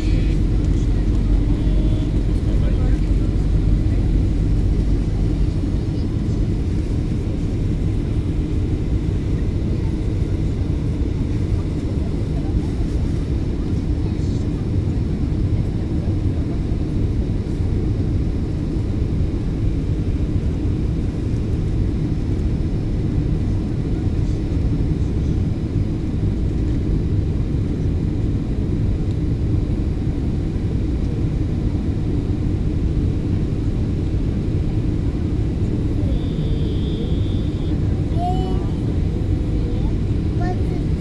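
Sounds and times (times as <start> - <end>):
airplane cabin rumble: 0.0 - 41.0.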